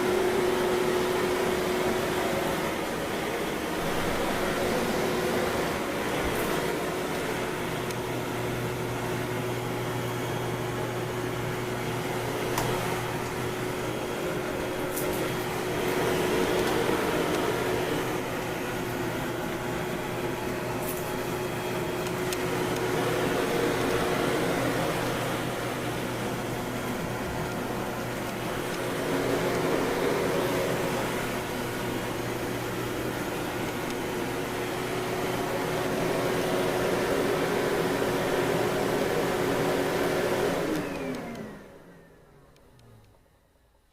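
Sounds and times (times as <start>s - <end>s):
vacuum cleaner motor hum: 0.0s - 43.4s.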